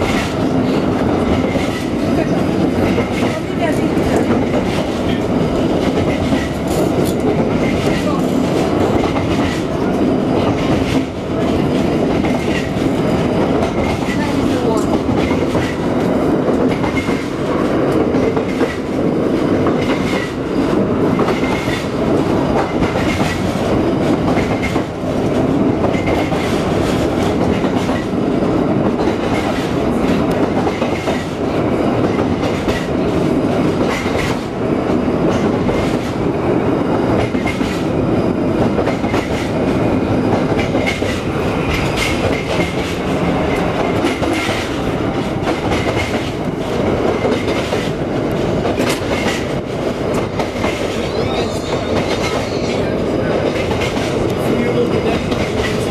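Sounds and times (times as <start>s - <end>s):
streetcar rumbling: 0.0s - 55.9s.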